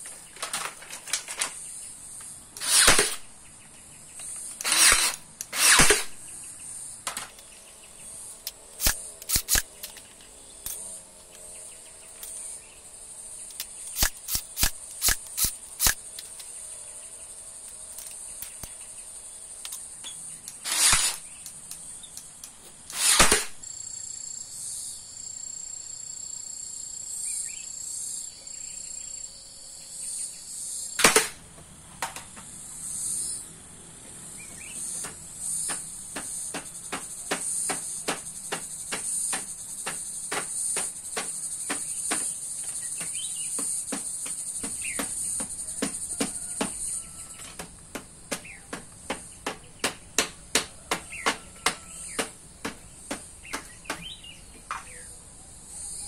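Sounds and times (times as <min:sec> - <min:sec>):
high-pitched insect chorus: 0:00.0 - 0:31.1, 0:31.8 - 0:56.0.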